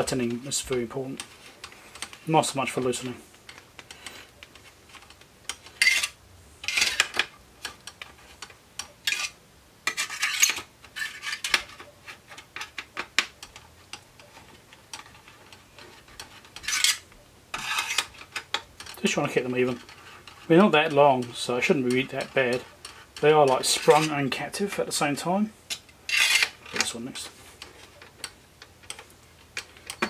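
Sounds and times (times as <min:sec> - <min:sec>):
screwdriver scraping and clicking: 0:00.0 - 0:24.3, 0:25.7 - 0:27.0.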